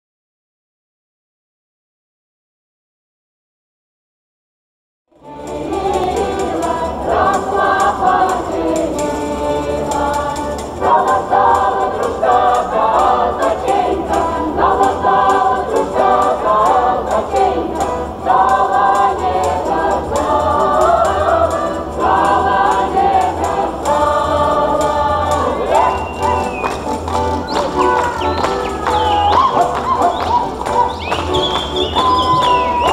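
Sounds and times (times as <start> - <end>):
men and women singing in chorus: 5.2 - 32.9.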